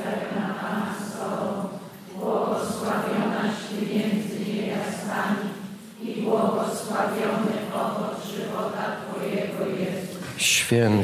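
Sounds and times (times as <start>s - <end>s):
voices reciting prayer in unison: 0.0s - 11.0s.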